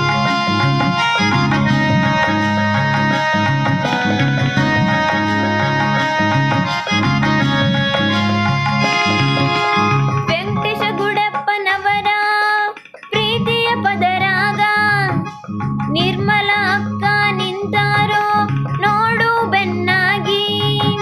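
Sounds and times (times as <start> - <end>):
song with instrumental backing: 0.0 - 21.0.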